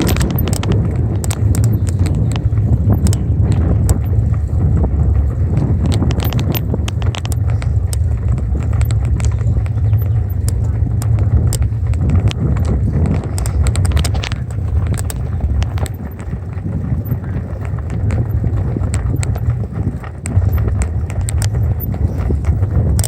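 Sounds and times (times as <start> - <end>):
bicycle clicks and rattles: 0.0 - 23.0
wind rumbling on microphone: 0.0 - 23.0.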